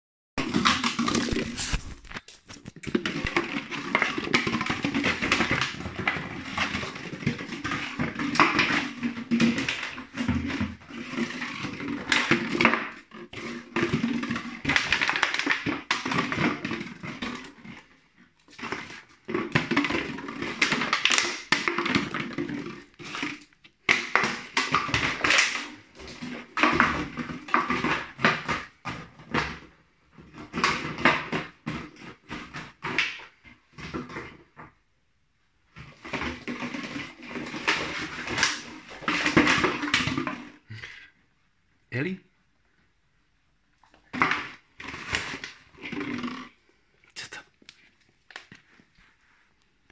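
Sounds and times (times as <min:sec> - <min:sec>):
plastic bottle crackling and clattering: 0:00.4 - 0:34.9, 0:35.6 - 0:40.9, 0:43.6 - 0:49.0.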